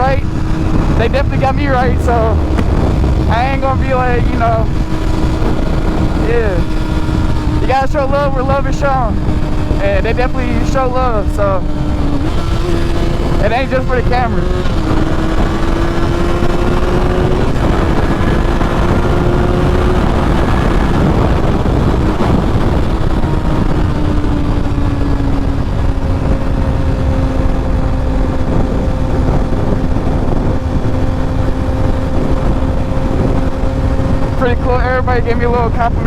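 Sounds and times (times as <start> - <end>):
motorcycle engine cruising: 0.0 - 36.0
wind noise: 0.0 - 36.0.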